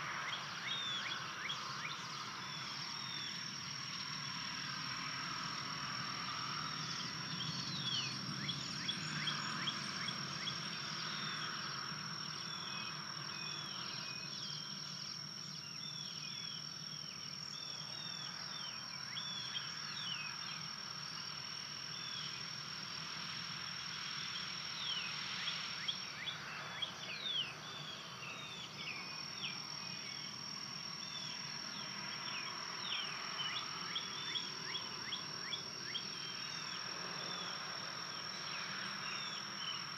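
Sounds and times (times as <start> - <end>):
high-pitched insect trill: 0.0 - 39.9
songbirds chirping: 0.0 - 39.9.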